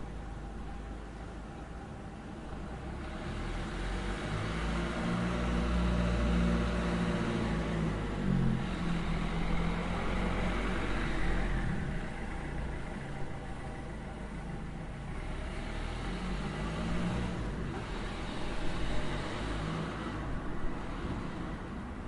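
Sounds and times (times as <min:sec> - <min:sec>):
vehicle driving past: 0:02.9 - 0:22.0.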